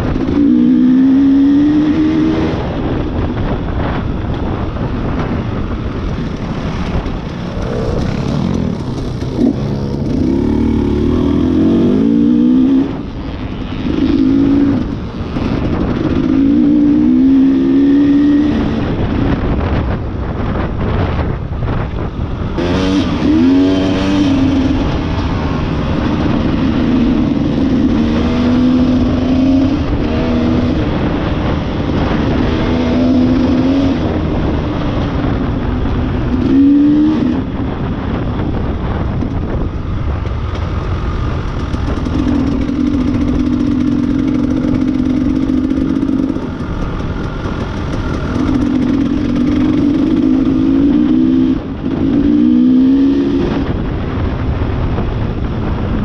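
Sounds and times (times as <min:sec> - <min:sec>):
motorcycle engine revving: 0:00.0 - 0:56.0
steady rushing noise: 0:00.0 - 0:56.0.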